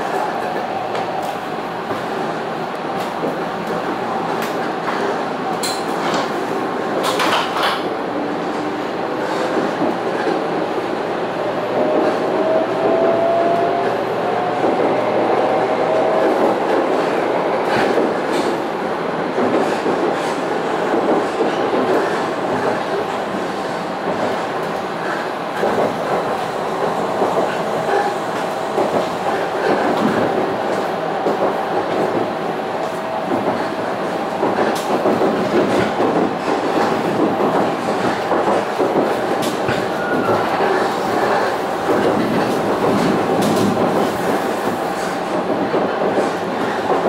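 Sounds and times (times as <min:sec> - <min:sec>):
train rolling noise: 0:00.0 - 0:47.0.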